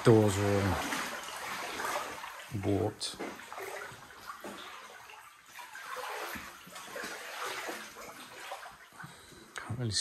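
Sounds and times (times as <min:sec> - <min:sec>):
wading through water: 0:00.0 - 0:10.0.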